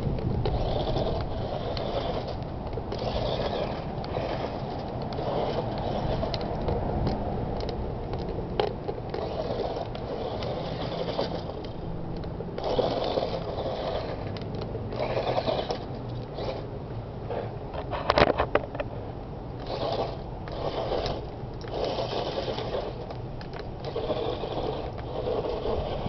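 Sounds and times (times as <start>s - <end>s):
toy truck motor whirring: 0.0s - 6.7s, 7.6s - 16.7s, 17.3s - 18.8s, 19.6s - 26.0s
tyres crunching on gravel: 0.0s - 18.9s, 19.6s - 26.0s.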